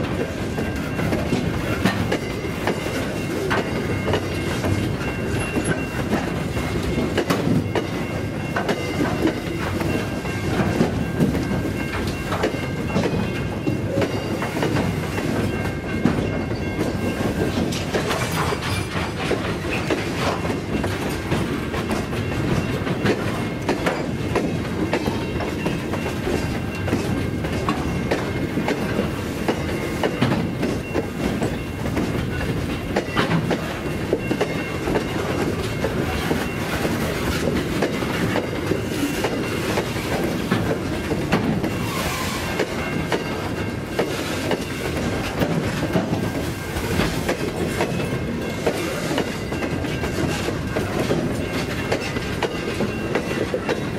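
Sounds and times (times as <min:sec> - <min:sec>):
train wagons rumbling on rails: 0:00.0 - 0:53.9
wheels clicking over rail joints: 0:00.0 - 0:53.9.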